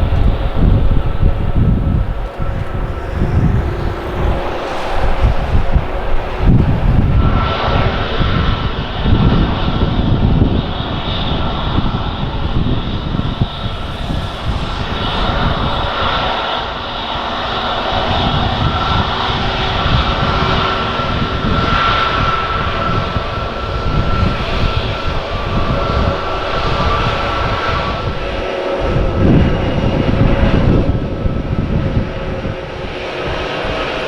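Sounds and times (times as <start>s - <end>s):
jet engines whining: 0.0s - 34.0s
wind buffeting microphone: 0.0s - 34.0s.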